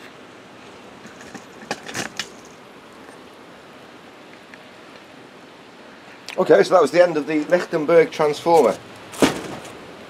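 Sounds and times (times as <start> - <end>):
low background hiss: 0.0 - 10.0.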